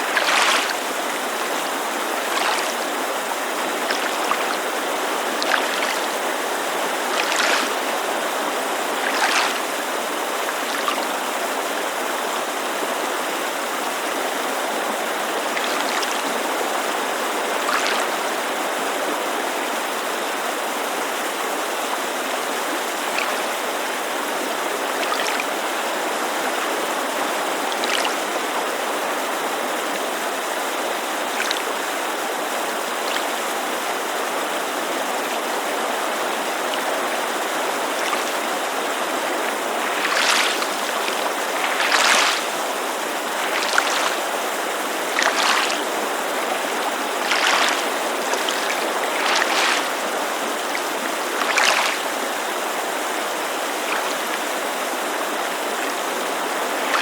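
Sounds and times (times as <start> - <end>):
creek rushing: 0.0 - 57.0
waves lapping on shore: 0.0 - 57.0.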